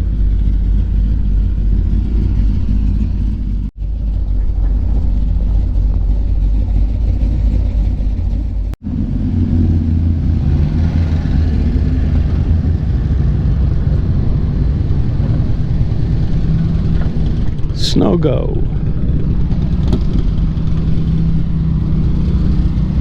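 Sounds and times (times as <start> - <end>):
deep engine rumble: 0.0 - 23.0.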